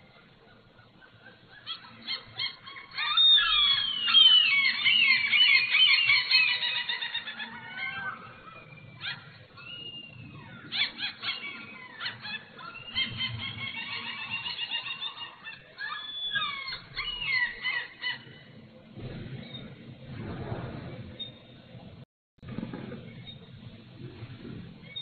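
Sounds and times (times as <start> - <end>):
gulls calling: 0.0 - 21.8.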